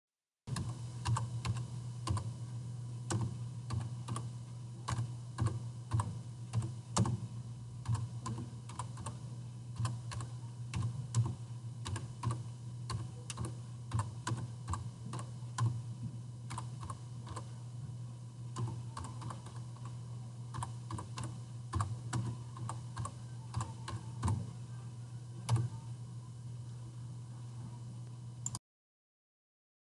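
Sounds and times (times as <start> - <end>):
steady low hum: 0.5 - 28.6.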